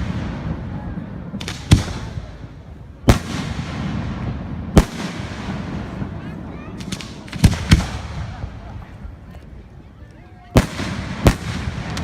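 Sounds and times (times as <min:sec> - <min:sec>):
fireworks bangs: 0:00.0 - 0:09.4, 0:10.4 - 0:12.0.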